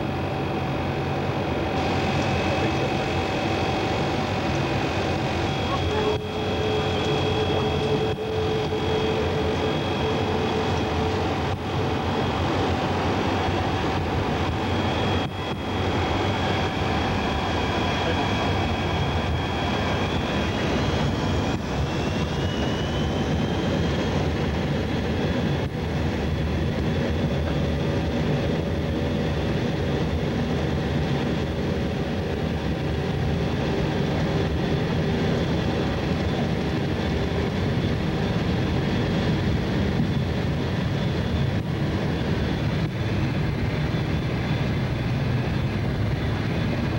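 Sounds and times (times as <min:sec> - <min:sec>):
high engine whines: 0:00.0 - 0:46.9
jet engines rumbling: 0:00.0 - 0:46.9.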